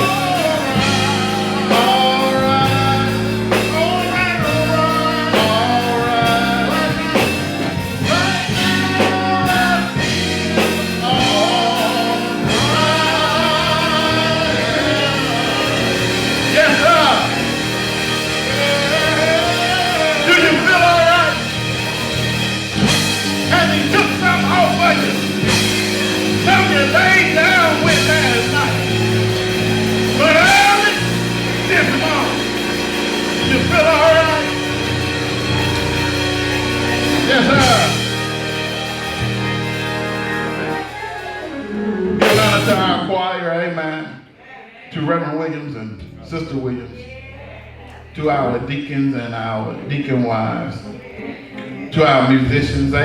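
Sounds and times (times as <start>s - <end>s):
band accompaniment: 0.0s - 43.2s
gospel singing: 0.0s - 53.0s.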